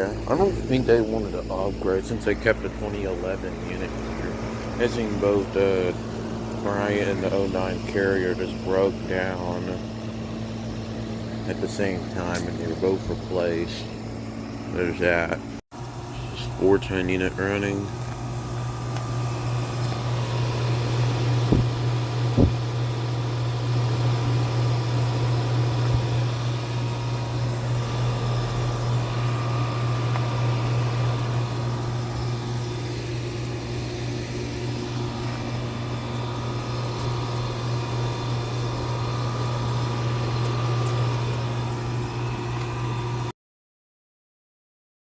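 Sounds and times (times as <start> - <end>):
air conditioner humming: 0.0 - 43.3.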